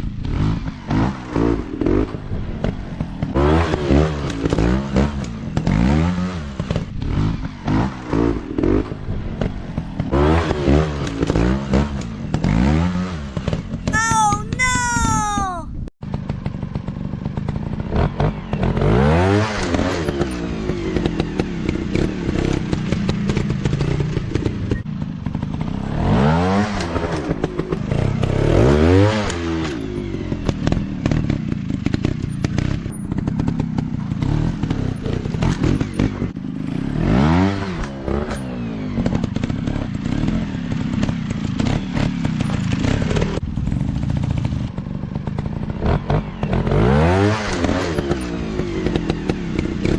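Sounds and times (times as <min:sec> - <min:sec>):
clatter and knocks of bike: 0:00.0 - 0:12.6, 0:16.1 - 0:18.9, 0:19.5 - 0:25.9, 0:29.6 - 0:36.9, 0:37.7 - 0:46.7, 0:47.5 - 0:49.9.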